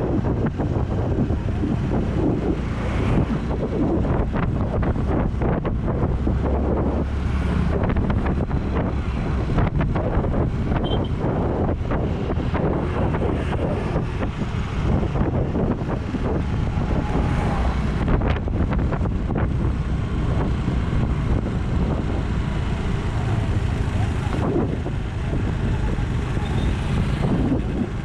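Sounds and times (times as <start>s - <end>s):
vehicle and road noise: 0.0s - 28.0s
wind buffeting microphone: 0.0s - 28.0s.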